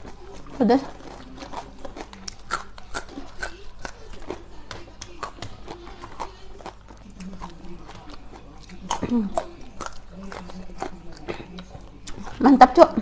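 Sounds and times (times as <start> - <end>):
chewing crunchy food: 0.0 - 13.0
faint low hum: 0.0 - 13.0.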